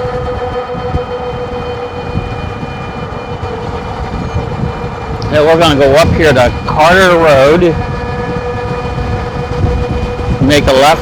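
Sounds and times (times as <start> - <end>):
electric motor whining: 0.0 - 11.0
wind on microphone: 0.0 - 11.0.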